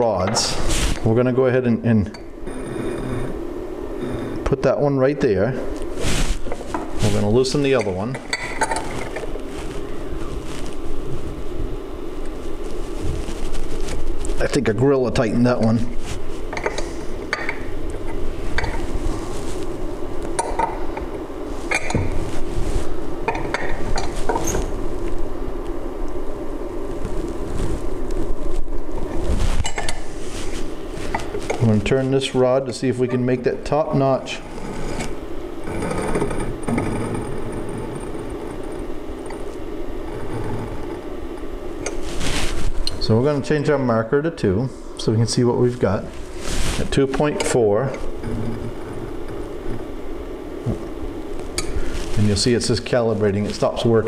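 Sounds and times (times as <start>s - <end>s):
low mechanical drone: 0.0s - 54.0s
steady hum: 0.0s - 54.0s.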